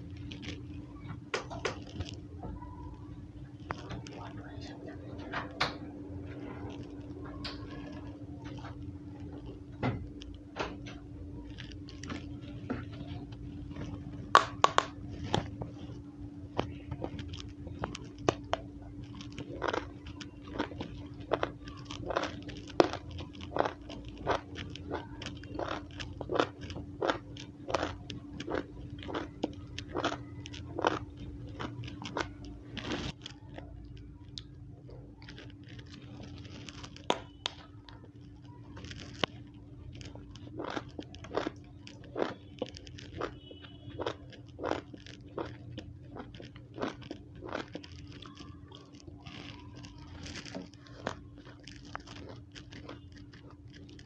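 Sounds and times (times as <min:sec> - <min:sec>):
crunchy chewing of raw eggplant: 0:00.0 - 0:00.8, 0:06.3 - 0:54.0.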